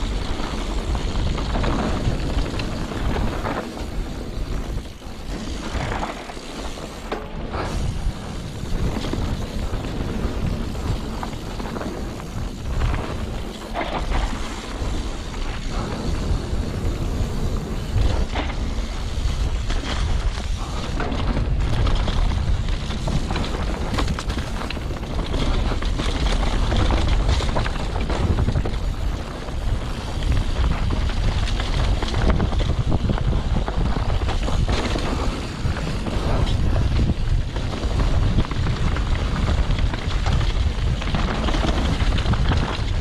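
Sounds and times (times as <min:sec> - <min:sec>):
bike rattling and knocking: 0:00.0 - 0:43.0
tyres rolling on dirt: 0:00.0 - 0:43.0
wind buffeting microphone: 0:00.0 - 0:43.0.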